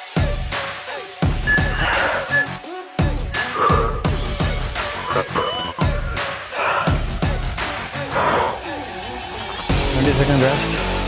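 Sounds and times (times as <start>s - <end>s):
electronic workout music: 0.0s - 11.0s.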